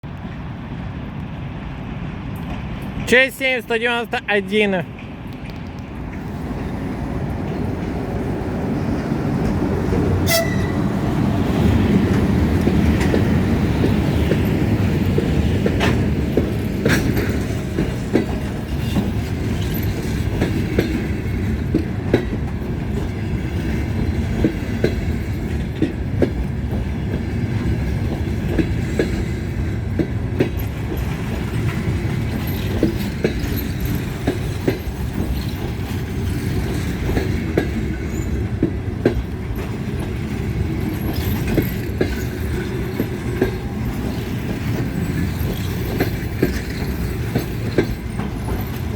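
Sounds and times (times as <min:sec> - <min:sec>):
train coaches rumbling past: 0:00.0 - 0:48.9
wheels clacking over rail joints: 0:04.9 - 0:48.9.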